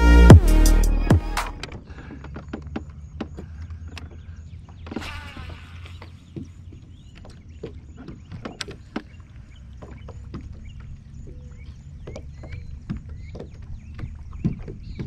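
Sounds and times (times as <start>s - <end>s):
gear knocking against kayak hull: 1.6s - 15.0s.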